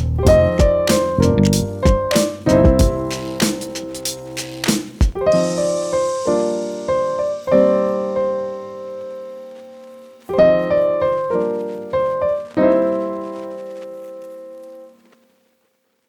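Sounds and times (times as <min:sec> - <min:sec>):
piano music: 0:00.0 - 0:15.1.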